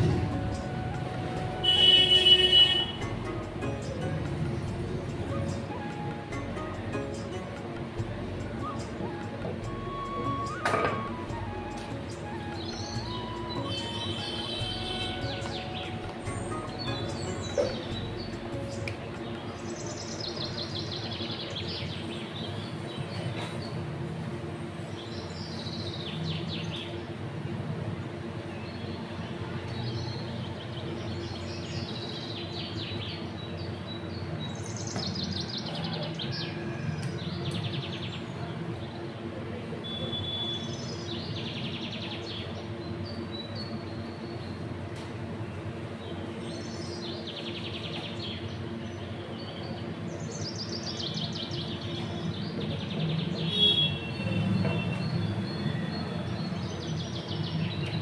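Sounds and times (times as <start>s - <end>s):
birds chirping: 0.0s - 27.3s, 28.2s - 58.0s.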